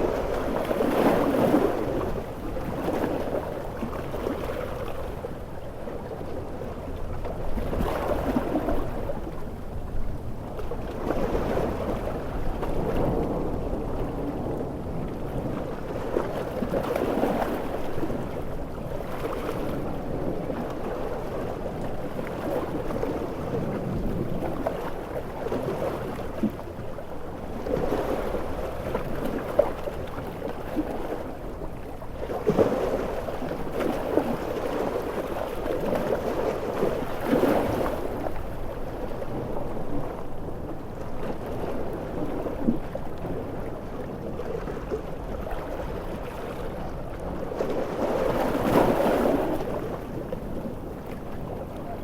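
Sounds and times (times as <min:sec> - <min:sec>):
ocean waves breaking: 0:00.0 - 0:52.0
wind: 0:00.0 - 0:52.0.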